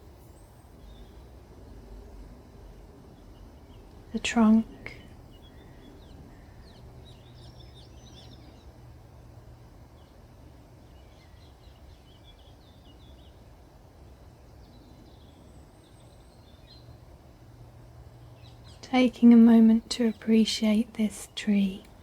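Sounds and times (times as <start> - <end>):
birds chirping and twittering: 0.0 - 22.0
low outdoor rumble: 0.0 - 22.0.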